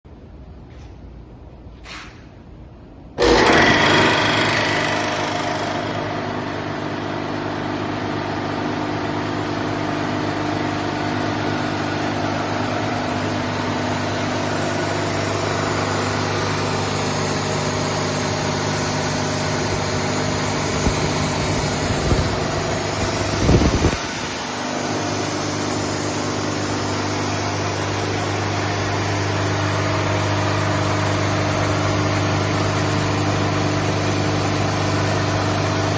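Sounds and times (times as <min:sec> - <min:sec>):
air compressor humming: 0:00.6 - 0:35.9
compressor knocking: 0:03.2 - 0:35.9.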